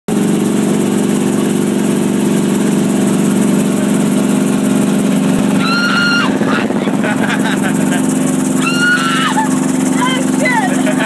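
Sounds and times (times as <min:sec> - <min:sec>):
helicopter engine and rotor drone: 0:00.1 - 0:11.0.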